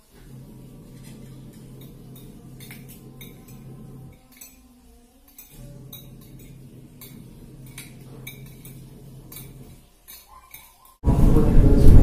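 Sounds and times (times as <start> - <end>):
low steady hum: 0.0 - 9.8
cutlery clinking on plates: 0.9 - 11.0.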